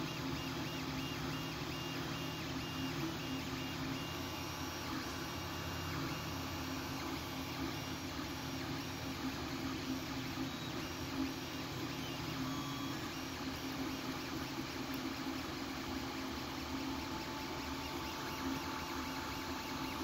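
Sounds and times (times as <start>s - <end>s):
fans whirring: 0.0s - 20.0s.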